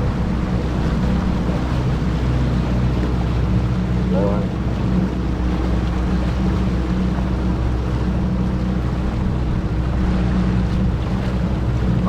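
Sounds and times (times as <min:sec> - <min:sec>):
boat motor droning: 0:00.0 - 0:12.0
water and wind rushing: 0:00.0 - 0:12.0.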